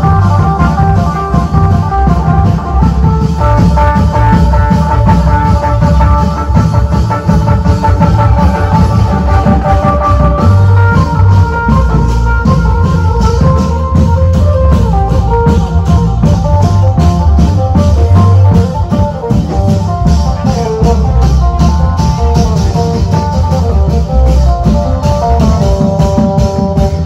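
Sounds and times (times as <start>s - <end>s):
loud music with drum beat: 0.0s - 27.0s.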